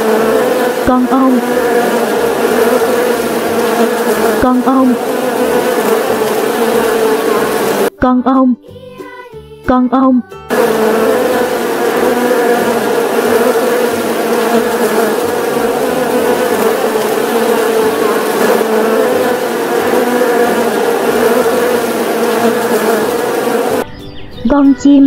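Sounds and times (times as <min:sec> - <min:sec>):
honeybees buzzing: 0:00.0 - 0:07.9, 0:10.5 - 0:23.9.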